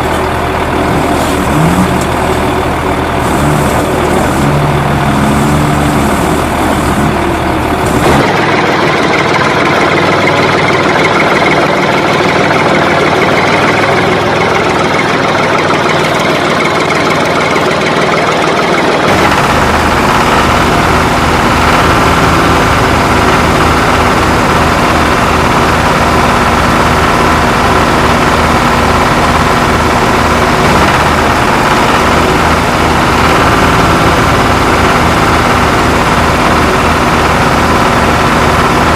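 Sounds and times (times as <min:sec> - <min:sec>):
heavy vehicle engine chugging: 0:00.0 - 0:38.9.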